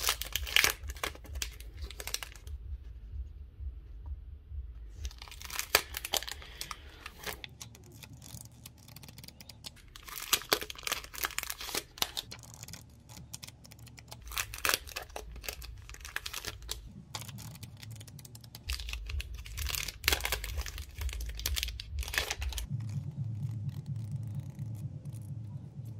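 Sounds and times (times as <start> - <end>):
plastic packaging crinkling: 0.0 - 2.5, 5.1 - 24.8.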